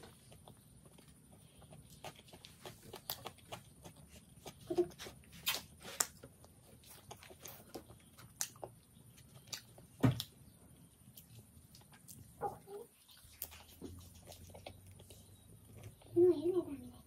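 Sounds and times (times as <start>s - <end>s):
chewing with wet mouth clicks: 0.0s - 16.2s.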